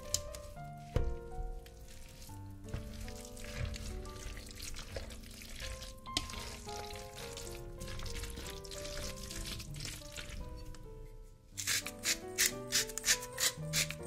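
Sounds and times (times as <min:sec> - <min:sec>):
background music of held notes: 0:00.0 - 0:14.0.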